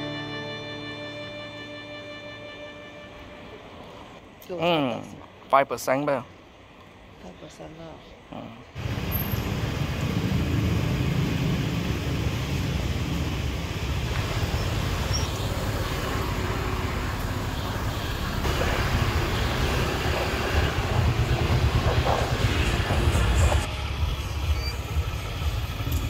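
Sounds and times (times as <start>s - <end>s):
low rumble of street traffic: 0.0s - 26.0s.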